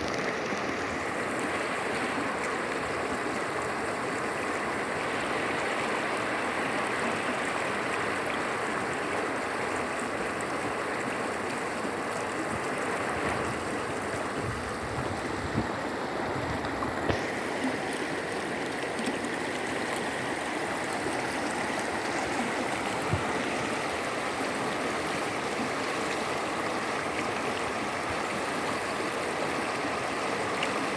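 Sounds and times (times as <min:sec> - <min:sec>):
stream babbling over stones: 0:00.0 - 0:30.9.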